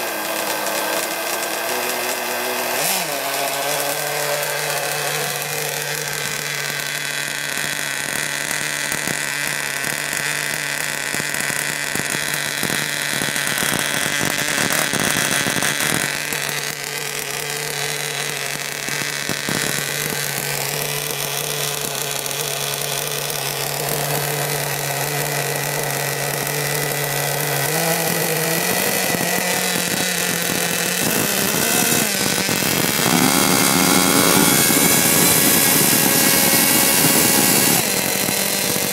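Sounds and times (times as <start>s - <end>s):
small two-stroke engine buzzing: 0.0s - 38.9s.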